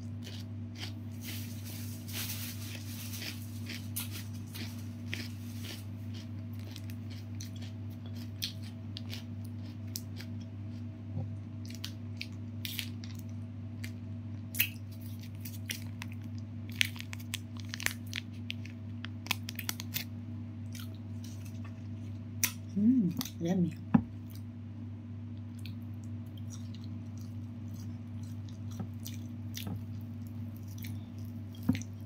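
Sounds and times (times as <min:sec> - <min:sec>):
chewing crunchy fried chicken: 0:00.0 - 0:24.5, 0:25.3 - 0:32.0
steady low hum: 0:00.0 - 0:32.0.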